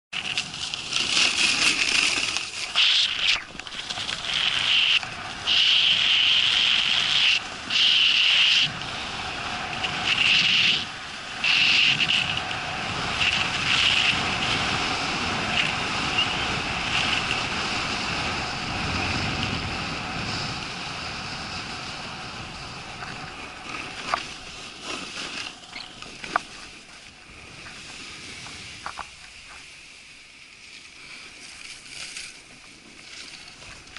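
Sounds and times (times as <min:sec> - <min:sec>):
wind rushing over microphone: 0:00.2 - 0:30.0
snowboard scraping over snow: 0:00.2 - 0:33.9.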